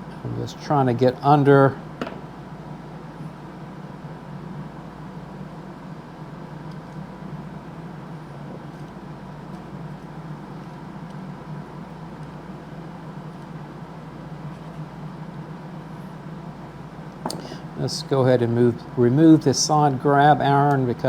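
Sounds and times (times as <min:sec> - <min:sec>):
room hum and hiss: 0:00.0 - 0:21.0.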